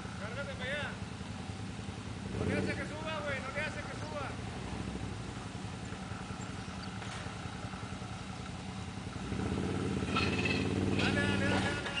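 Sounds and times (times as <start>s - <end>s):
quad engine idling and revving: 0.0s - 12.0s.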